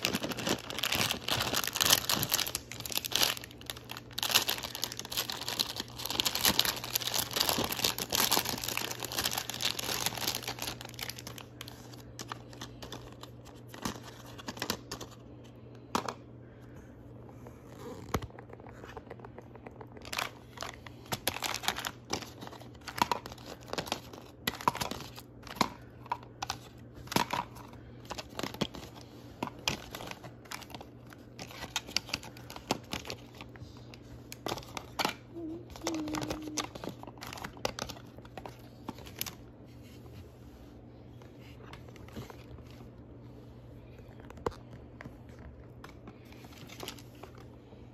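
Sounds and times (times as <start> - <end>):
plastic packaging crinkling: 0.0 - 15.3, 17.6 - 40.0, 43.9 - 47.6.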